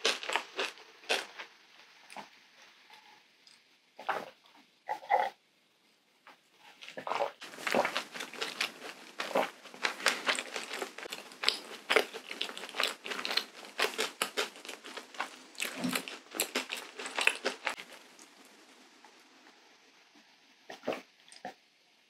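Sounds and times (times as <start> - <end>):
wet chewing and swallowing sounds: 0.0 - 5.3, 6.8 - 18.6, 20.7 - 21.6.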